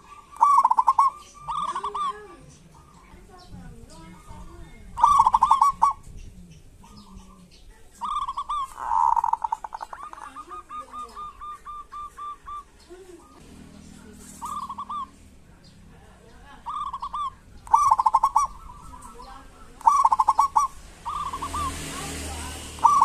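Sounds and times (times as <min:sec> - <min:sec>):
doves calling: 0:00.0 - 0:23.0.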